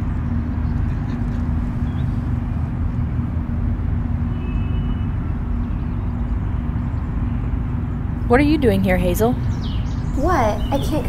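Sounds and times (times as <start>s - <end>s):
constant low hum: 0.0s - 11.0s
outdoor background rumble: 0.0s - 11.0s.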